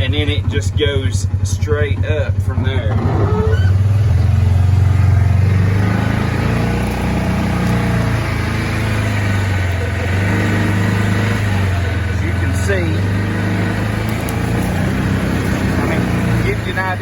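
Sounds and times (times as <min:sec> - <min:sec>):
engine droning at high throttle: 0:00.0 - 0:17.0.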